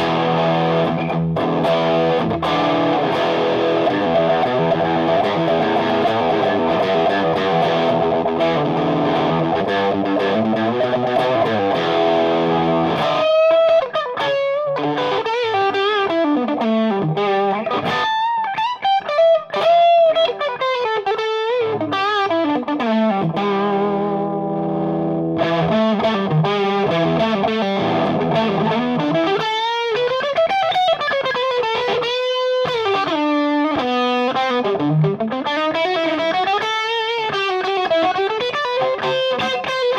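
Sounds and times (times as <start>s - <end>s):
lightly distorted electric guitar: 0.0s - 39.9s.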